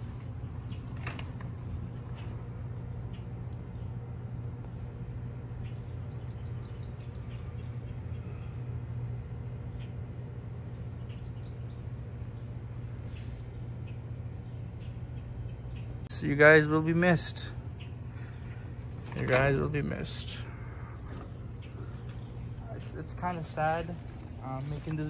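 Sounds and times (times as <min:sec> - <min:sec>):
crickets trilling: 0:00.0 - 0:25.0
low hum: 0:00.0 - 0:25.0.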